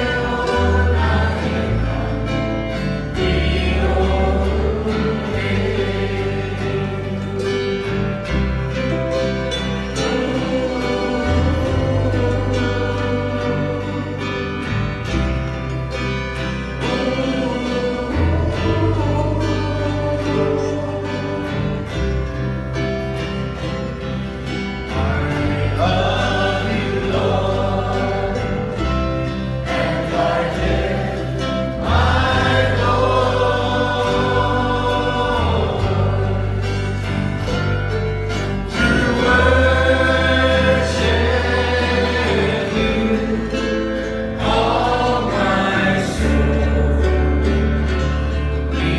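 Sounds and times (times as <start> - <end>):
band with bass and guitar: 0.0 - 48.9
choir singing: 0.0 - 48.9.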